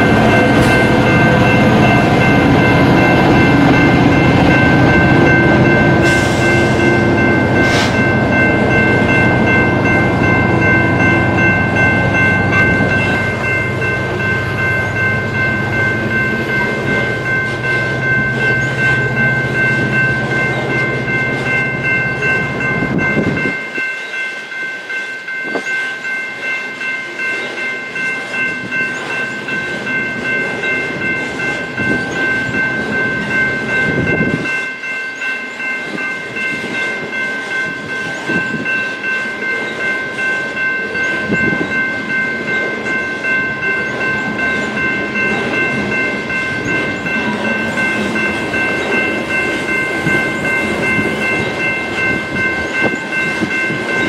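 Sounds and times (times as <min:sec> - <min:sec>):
high-pitched ringing tone: 0:00.0 - 0:54.0.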